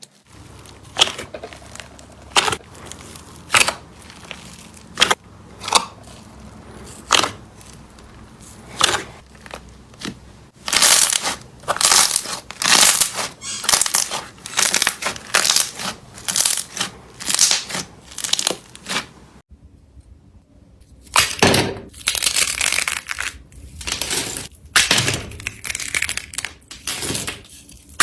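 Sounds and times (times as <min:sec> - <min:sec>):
slime crunching and crackling: 0:00.0 - 0:19.4, 0:21.1 - 0:28.0.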